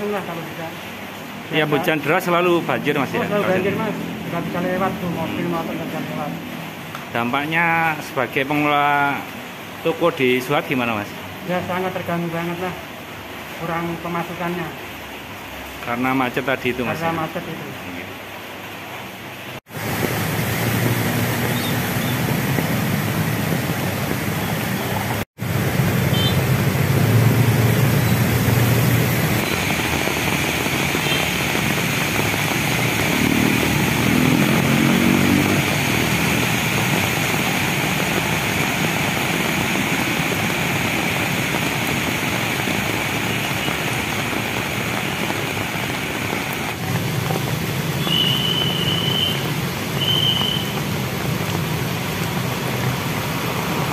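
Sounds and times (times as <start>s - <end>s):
vehicle engines: 0.0s - 7.2s, 16.7s - 53.9s
heavy rain and water hissing: 0.0s - 53.9s.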